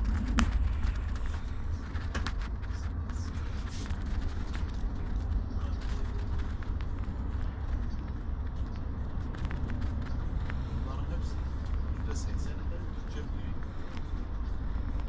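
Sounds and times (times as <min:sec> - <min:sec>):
coach engine and tyre rumble: 0:00.0 - 0:15.0
faint clicks and rattles: 0:00.0 - 0:15.0.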